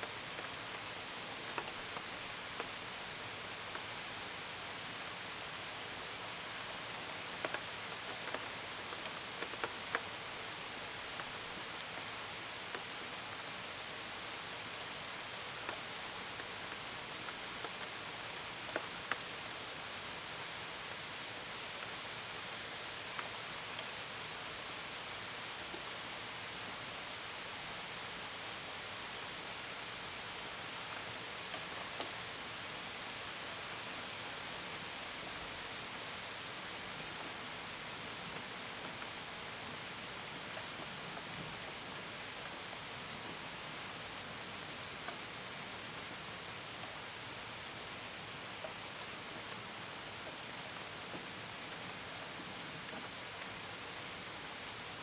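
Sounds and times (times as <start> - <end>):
steady gentle rain: 0.0 - 55.0.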